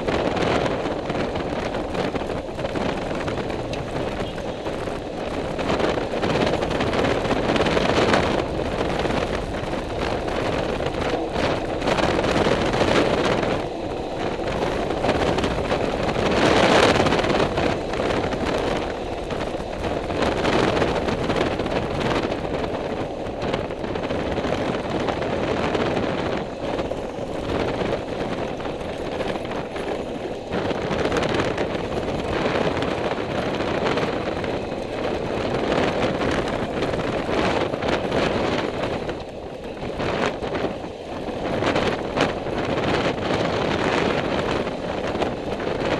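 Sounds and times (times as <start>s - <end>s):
vehicle engine running: 0.0s - 45.9s
wind buffeting microphone: 0.0s - 45.9s.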